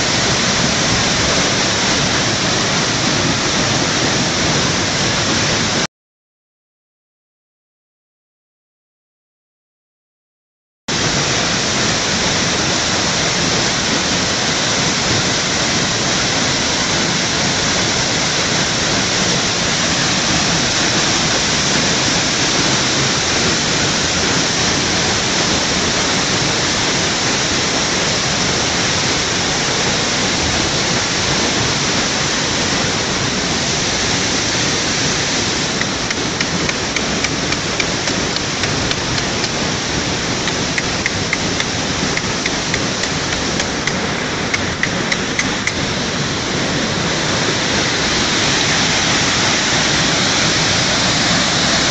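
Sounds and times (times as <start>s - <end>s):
waterfall roaring: 0.0s - 5.9s, 10.9s - 51.9s.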